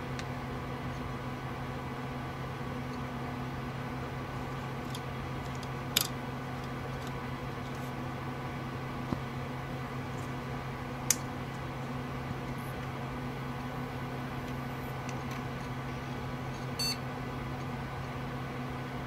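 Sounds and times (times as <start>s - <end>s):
computer fans humming: 0.0s - 19.0s.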